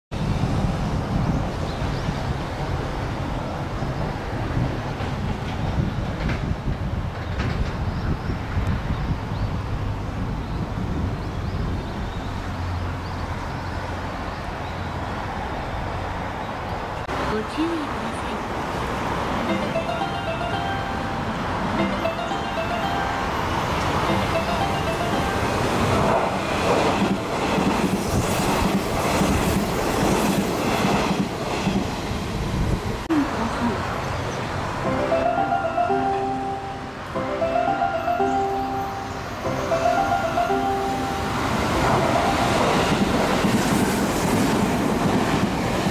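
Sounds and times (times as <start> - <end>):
train passing at speed: 0.1 - 45.9
wheels clickety-clack on rails: 0.2 - 20.8, 21.6 - 34.8, 39.8 - 45.9
distant traffic rumble: 0.2 - 45.9.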